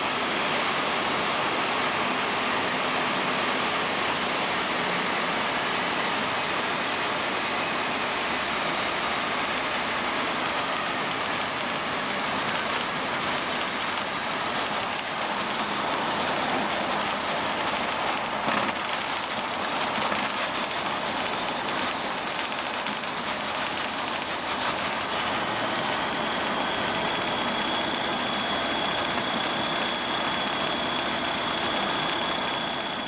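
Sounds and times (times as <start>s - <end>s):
aircraft engine running: 0.0s - 33.0s
steady high whine: 0.0s - 33.0s.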